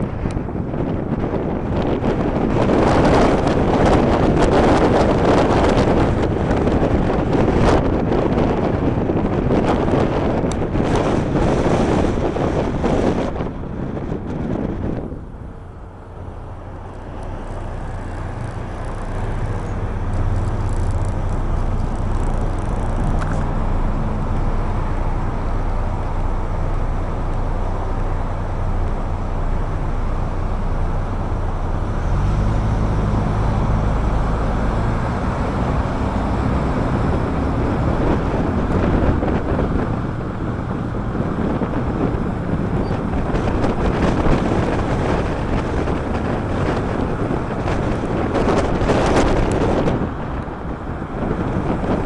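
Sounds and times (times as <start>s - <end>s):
car engine revving: 0.0s - 52.0s
tyre and wind noise: 0.0s - 52.0s.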